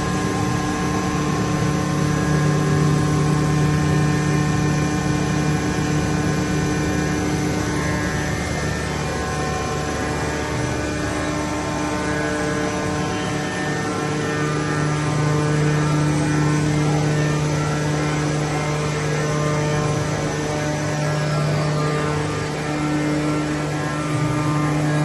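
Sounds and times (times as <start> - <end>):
lathe running: 0.0 - 25.0
milling machines humming: 0.0 - 25.0.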